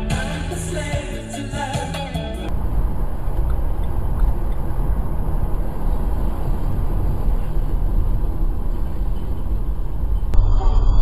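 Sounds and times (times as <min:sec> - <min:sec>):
car road and engine rumble: 0:02.2 - 0:11.0.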